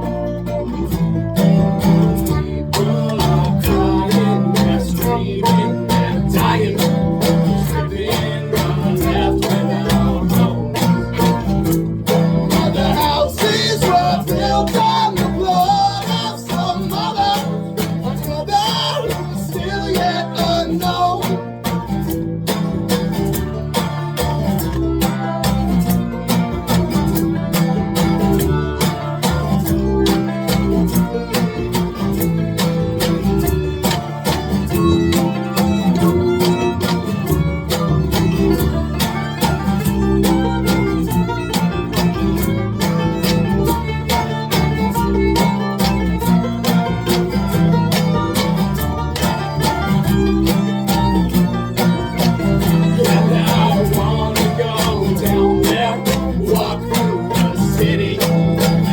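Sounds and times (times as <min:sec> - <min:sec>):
bowed fiddle: 0:00.0 - 0:58.9
strummed guitar: 0:00.0 - 0:58.9.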